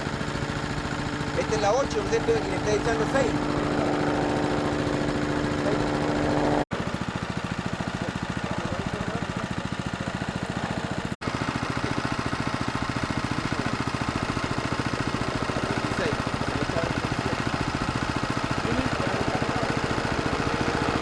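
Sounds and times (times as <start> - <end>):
helicopter rotor beating: 0.0 - 21.0.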